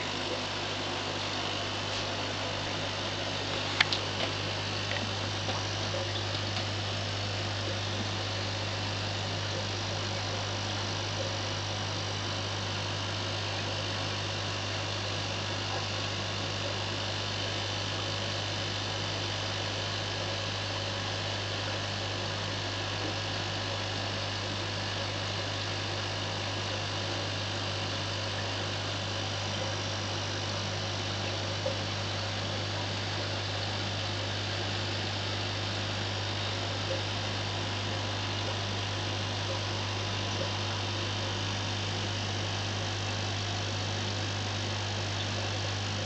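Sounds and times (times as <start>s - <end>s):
air pump humming: 0.0s - 19.3s, 24.5s - 46.0s.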